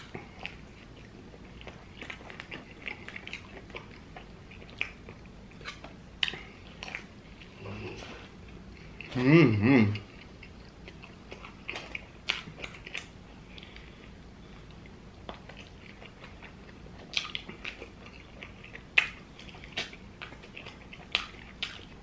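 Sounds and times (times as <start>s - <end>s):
man chewing: 0.0s - 22.0s.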